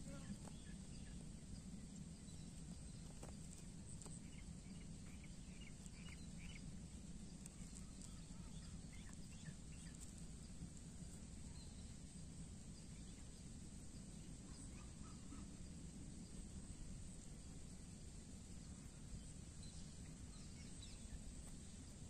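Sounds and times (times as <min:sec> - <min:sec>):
faint high chirps and ticks: 0:00.0 - 0:22.0.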